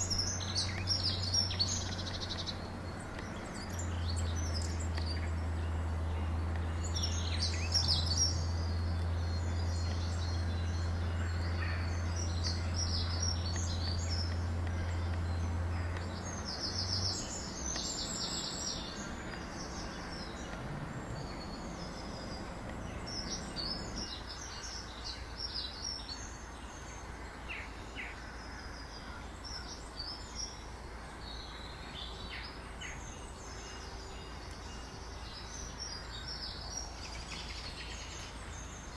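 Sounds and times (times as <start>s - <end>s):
low steady hum: 0.0s - 38.9s
outdoor background noise: 0.0s - 38.9s
small birds chirping: 0.0s - 38.9s.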